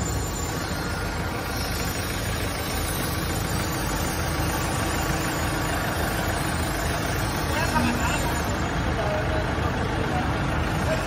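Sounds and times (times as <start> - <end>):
heavy machinery engines idling: 0.0 - 11.0.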